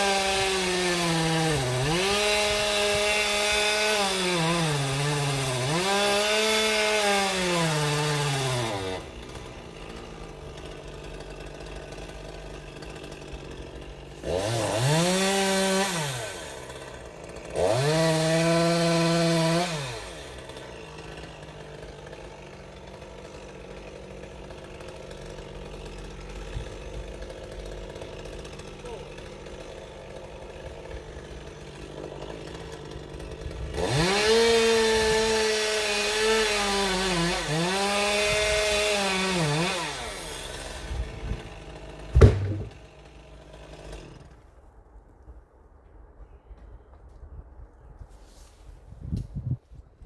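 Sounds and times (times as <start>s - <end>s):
chainsaw revving and idling: 0.0s - 44.4s.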